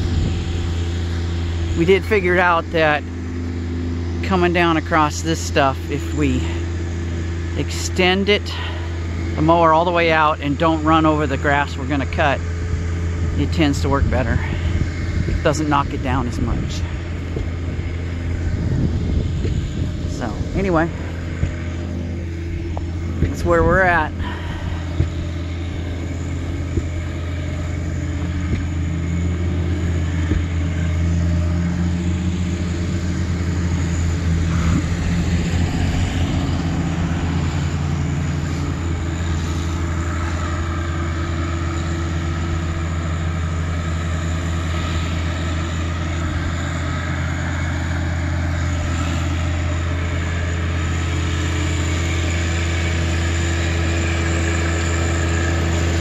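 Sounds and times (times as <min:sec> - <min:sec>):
flail mower cutting grass: 0:00.0 - 0:56.0
tractor diesel engine running: 0:00.0 - 0:56.0.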